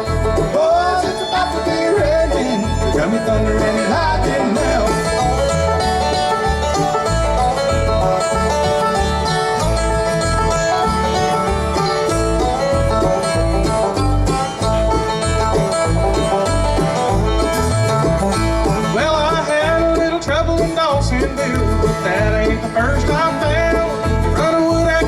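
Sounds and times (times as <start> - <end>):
banjo: 0.0 - 25.0
bluegrass band playing: 0.0 - 25.0.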